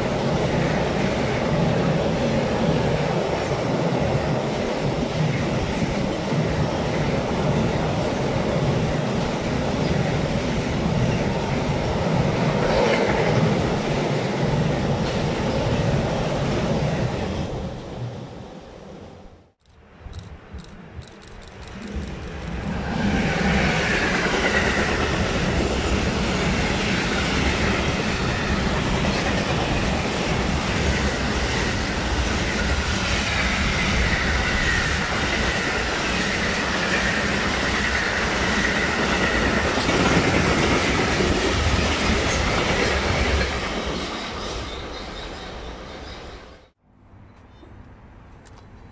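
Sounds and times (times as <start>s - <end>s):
freight train rumbling past: 0.0s - 46.8s.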